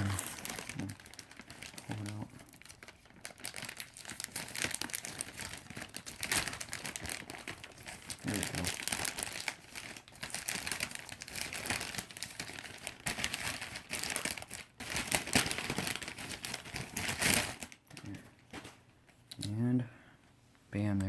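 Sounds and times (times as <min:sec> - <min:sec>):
packaging crinkling and rustling: 0:00.0 - 0:19.5.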